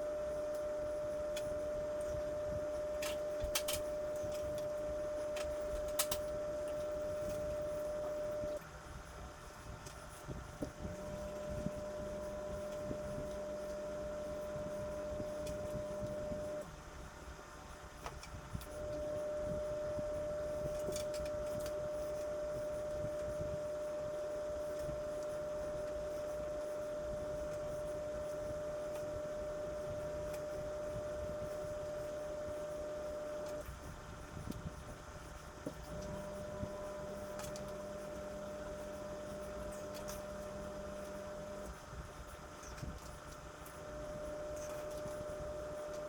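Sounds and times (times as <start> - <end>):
appliance motor humming: 0.0 - 46.0.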